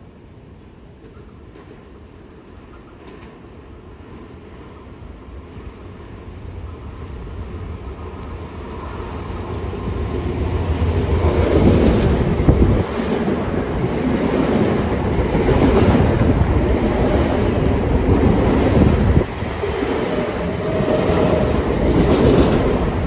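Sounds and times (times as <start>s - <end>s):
commuter train approaching: 0.0s - 23.0s.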